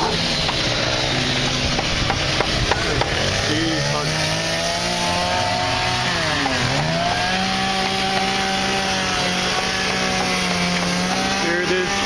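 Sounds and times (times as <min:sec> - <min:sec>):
chainsaw running at high speed: 0:00.0 - 0:12.0.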